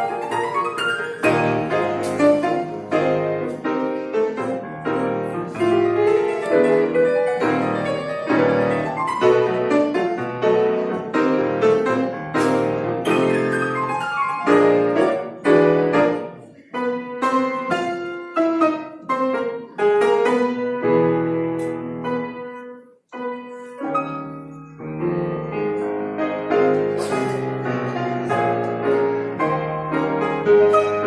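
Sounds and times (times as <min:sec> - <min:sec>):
fast lively piano piece: 0:00.0 - 0:31.0.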